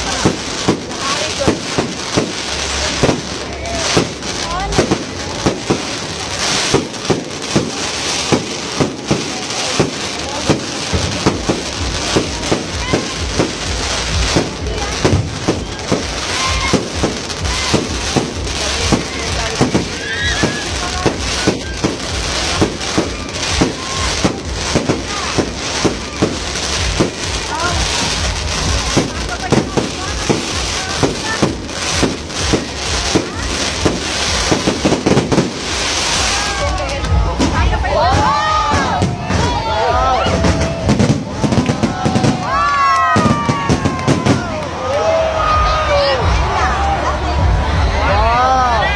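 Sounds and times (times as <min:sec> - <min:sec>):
fireworks bangs: 0:00.0 - 0:46.7
fireworks crackle: 0:00.0 - 0:46.7.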